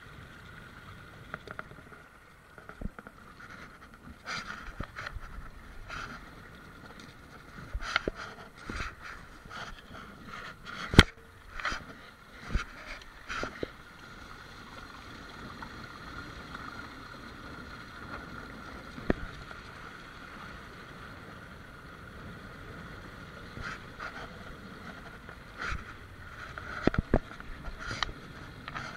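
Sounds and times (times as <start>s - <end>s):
water rushing along hulls: 0.0s - 28.9s.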